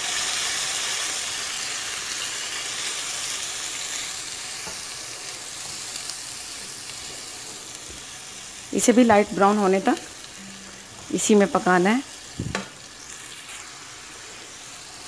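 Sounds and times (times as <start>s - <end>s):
onion paste sizzling in oil: 0.0s - 15.0s.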